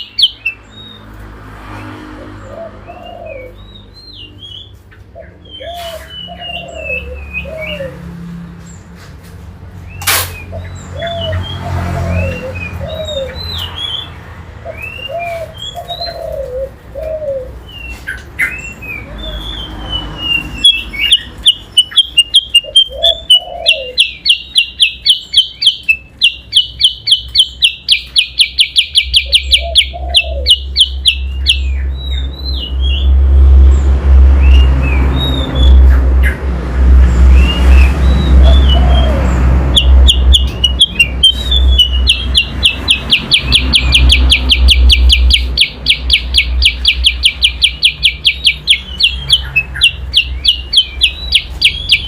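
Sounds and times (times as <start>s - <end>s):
songbirds whistling chirps: 0.0s - 1.1s, 1.8s - 8.1s, 9.8s - 33.2s, 34.4s - 36.4s, 37.3s - 52.0s.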